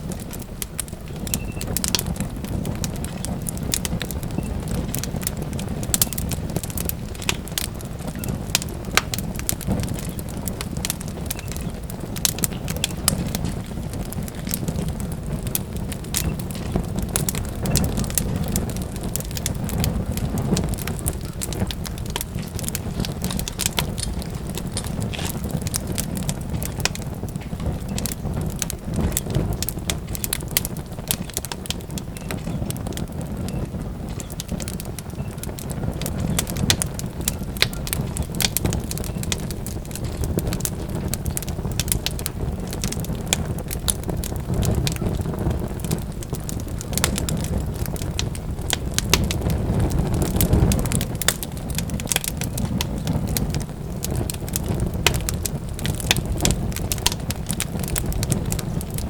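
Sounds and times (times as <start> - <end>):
fire crackling and popping: 0.0 - 59.0
wood fire rumbling: 0.0 - 59.0.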